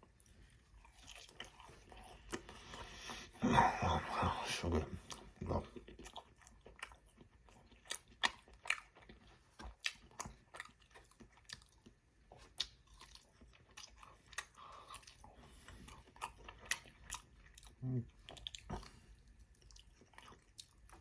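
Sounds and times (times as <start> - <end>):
crunchy chewing: 0.0 - 3.3, 4.9 - 21.0.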